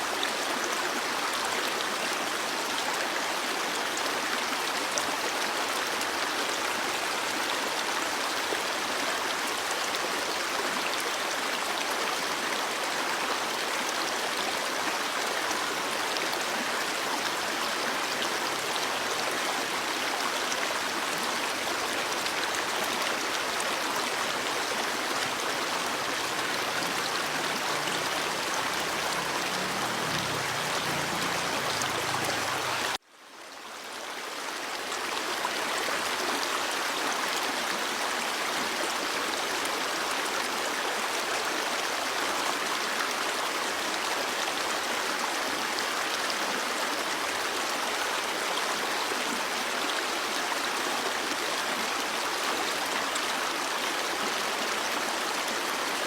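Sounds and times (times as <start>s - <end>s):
stream water running and splashing: 0.0s - 56.0s.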